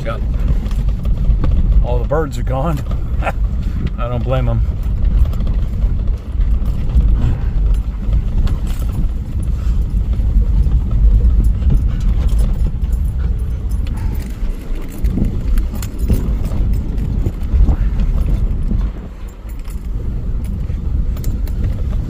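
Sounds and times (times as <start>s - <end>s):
knocks and rattles: 0.0s - 22.0s
vehicle driving over rough ground: 0.0s - 22.0s.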